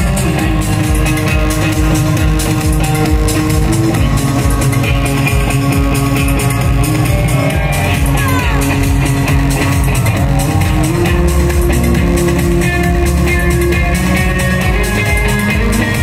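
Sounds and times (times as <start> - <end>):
dance backing track: 0.0 - 16.0
electric guitar sustained lead notes: 0.0 - 16.0
kick-drum beat: 0.0 - 16.0.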